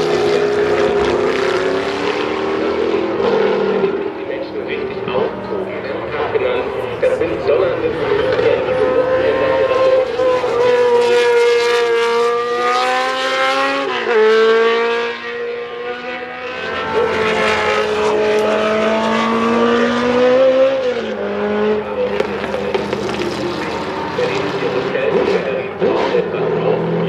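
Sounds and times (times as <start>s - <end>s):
racing car engine at high revs: 0.0s - 27.0s.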